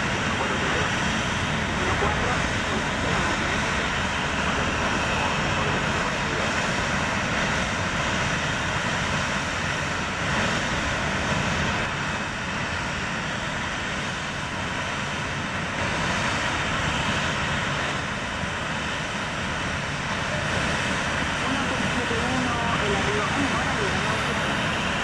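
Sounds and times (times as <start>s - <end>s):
jet engines at taxi power: 0.0s - 25.0s.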